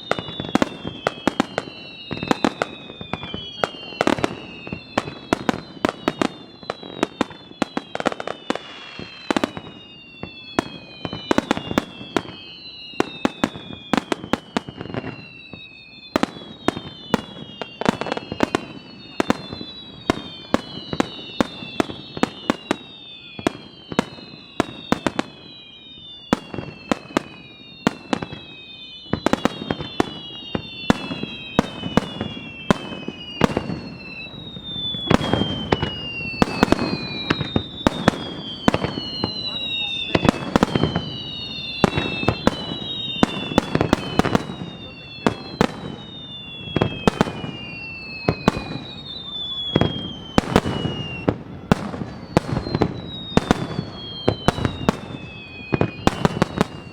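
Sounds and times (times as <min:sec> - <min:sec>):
falling firework whistles: 0:00.0 - 0:56.9
firework bangs: 0:00.0 - 0:56.9.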